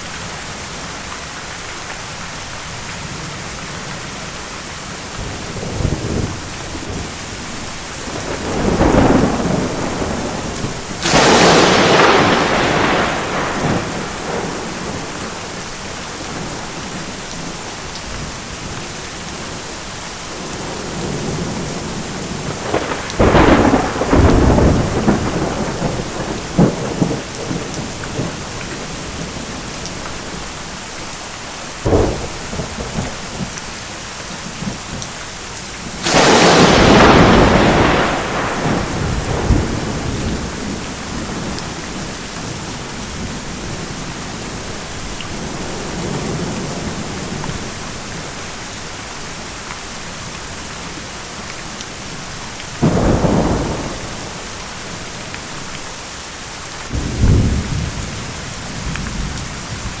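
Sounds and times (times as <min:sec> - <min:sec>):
steady rain: 0:00.0 - 1:00.0
thunder claps and rumbles: 0:05.1 - 0:19.6, 0:20.3 - 0:30.5, 0:31.8 - 0:48.6, 0:50.2 - 0:55.8, 0:56.7 - 1:00.0.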